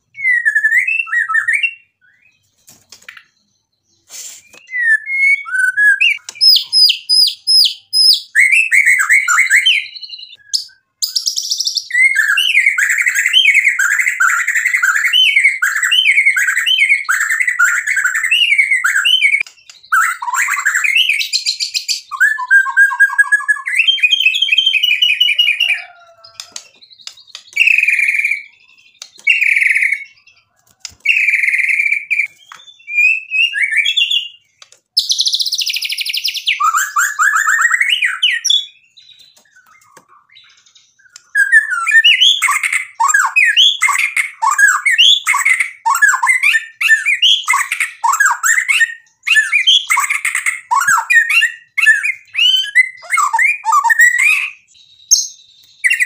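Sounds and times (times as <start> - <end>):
bird singing trills and whistles: 0.0 - 56.0.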